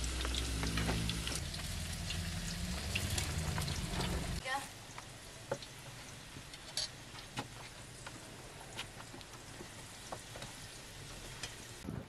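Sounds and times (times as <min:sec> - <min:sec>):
oil sizzling: 0:00.0 - 0:11.8.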